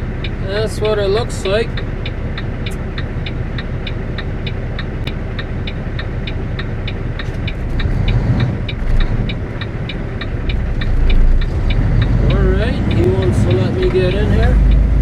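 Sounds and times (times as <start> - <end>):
diesel engine idling: 0.0 - 15.0
turn signal ticking: 0.0 - 15.0.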